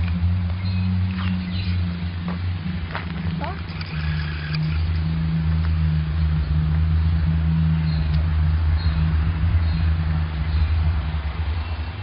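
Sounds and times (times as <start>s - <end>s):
deep droning hum: 0.0s - 12.0s.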